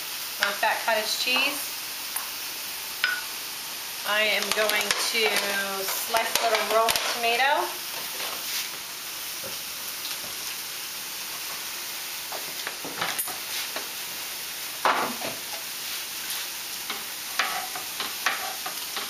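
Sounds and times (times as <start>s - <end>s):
meat sizzling in frying pans: 0.0s - 19.0s.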